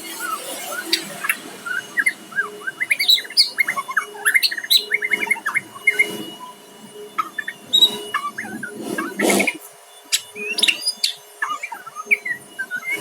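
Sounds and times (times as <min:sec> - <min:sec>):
songbird whistling and chirping: 0:00.1 - 0:13.0.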